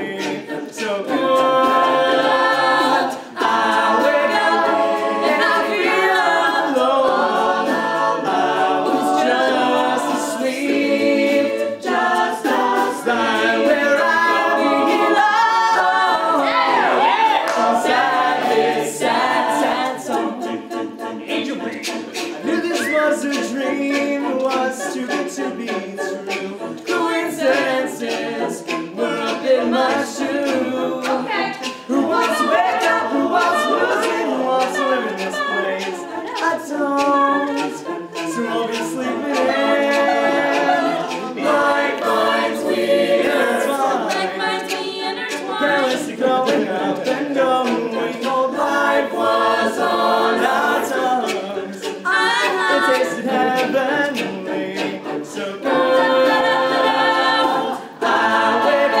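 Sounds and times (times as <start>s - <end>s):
vocal group singing in harmony: 0.0s - 59.0s.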